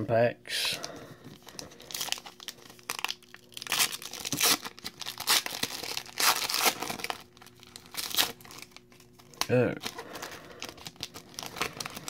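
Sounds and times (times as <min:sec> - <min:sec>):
foil wrapper crinkling and tearing: 0:00.8 - 0:12.0.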